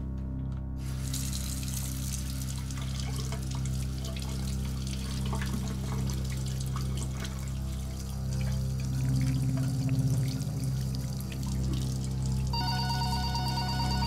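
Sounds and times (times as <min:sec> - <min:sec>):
low steady music drone: 0:00.0 - 0:14.0
hands rinsed under water: 0:00.8 - 0:12.5
tap water running into sink: 0:00.8 - 0:12.6.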